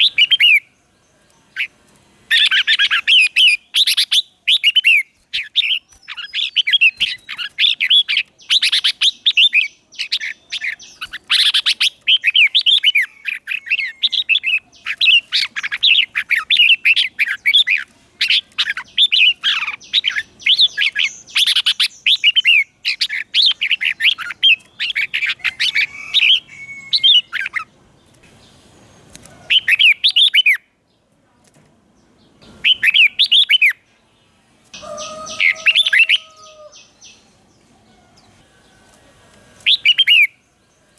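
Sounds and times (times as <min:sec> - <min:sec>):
bulbul singing warbled phrases: 0:00.0 - 0:27.8, 0:28.4 - 0:30.8, 0:32.4 - 0:33.9, 0:34.8 - 0:38.4, 0:39.6 - 0:40.4.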